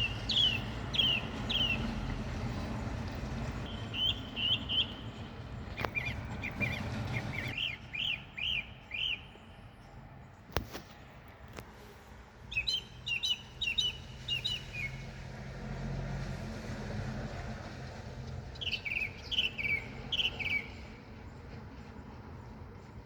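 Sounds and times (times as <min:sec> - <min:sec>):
songbirds chirping: 0:00.0 - 0:15.9, 0:17.6 - 0:23.0.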